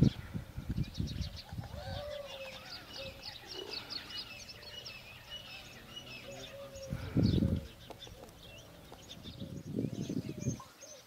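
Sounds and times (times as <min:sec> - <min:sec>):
wild birds singing and chirping: 0:00.0 - 0:11.0.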